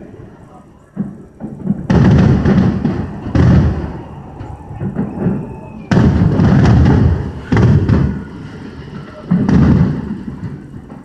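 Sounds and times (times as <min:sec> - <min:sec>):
fireworks booming: 0:00.0 - 0:11.0
fireworks rumble and crackle: 0:00.0 - 0:11.0.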